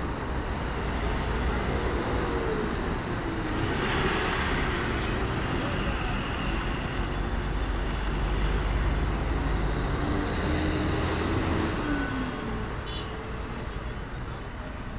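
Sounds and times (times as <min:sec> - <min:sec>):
bus engine rumble and whine: 0:00.0 - 0:14.9
traffic noise: 0:00.0 - 0:14.9.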